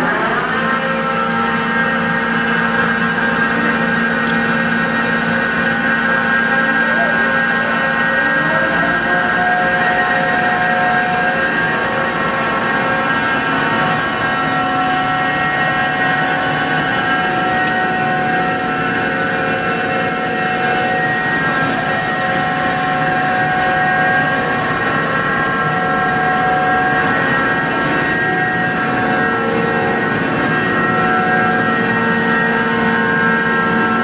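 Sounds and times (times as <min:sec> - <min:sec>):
grinding machinery droning and whining: 0:00.0 - 0:34.0.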